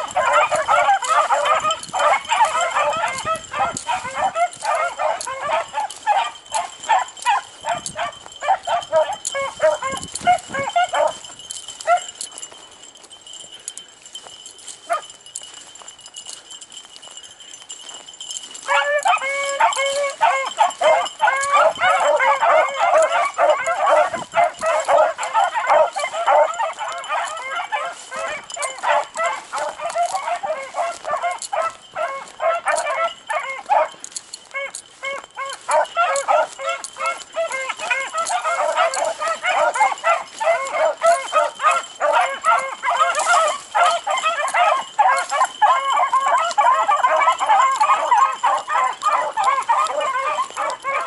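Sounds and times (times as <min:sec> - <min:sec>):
beagles baying: 0:00.0 - 0:51.0.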